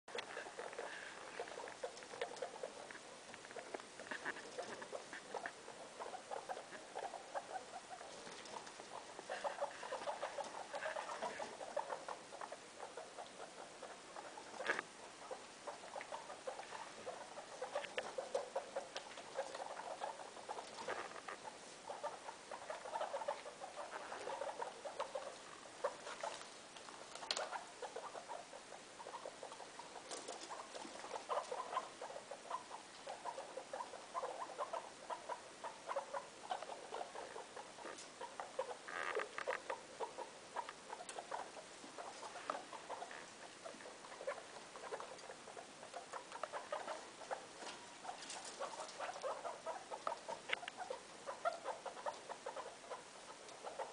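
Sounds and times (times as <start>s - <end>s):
guinea pigs chattering: 0.1s - 53.9s.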